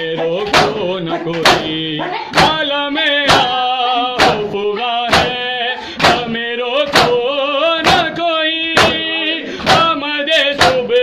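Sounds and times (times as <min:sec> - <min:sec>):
chest-beating slaps: 0:00.0 - 0:10.0, 0:10.6 - 0:11.0
men chanting: 0:00.0 - 0:11.0.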